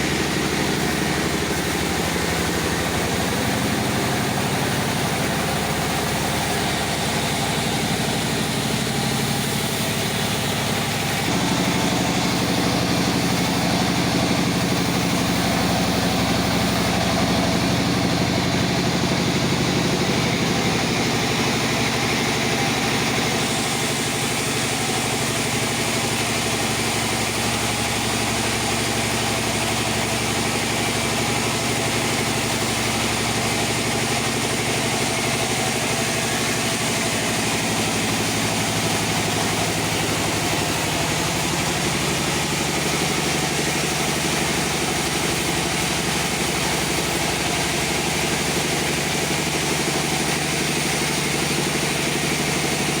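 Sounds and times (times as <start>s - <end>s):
circular sawmill machine running: 0.0s - 53.0s.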